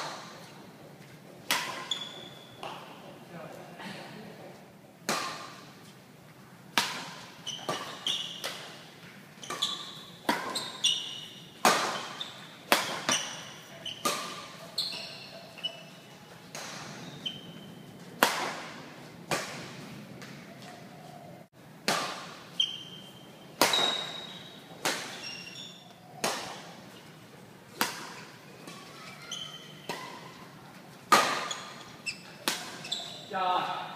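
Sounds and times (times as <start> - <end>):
rackets hitting shuttlecock: 0.0 - 0.6, 1.4 - 3.1, 5.0 - 5.8, 6.7 - 20.8, 21.8 - 33.8
shoes squeaking on court floor: 0.0 - 3.1, 7.1 - 21.3, 22.3 - 33.7.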